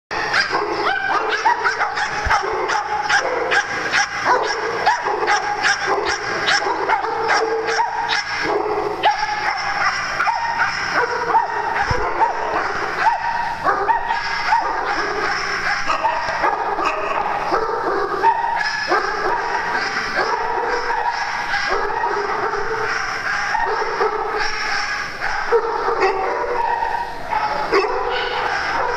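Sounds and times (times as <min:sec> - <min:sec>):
many dogs barking: 0:00.1 - 0:28.9.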